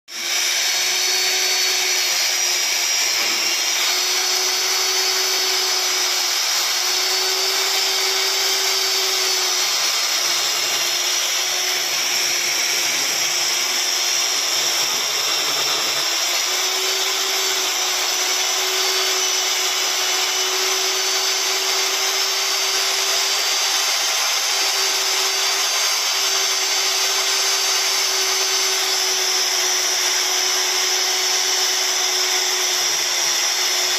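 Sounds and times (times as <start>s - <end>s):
core drill cutting through wall: 0.0s - 33.9s.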